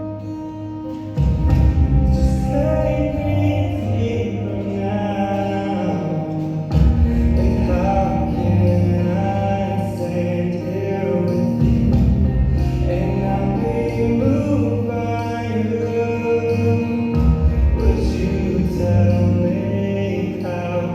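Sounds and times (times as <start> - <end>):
person singing: 0.0 - 20.9
sustained low bass notes: 0.0 - 20.9.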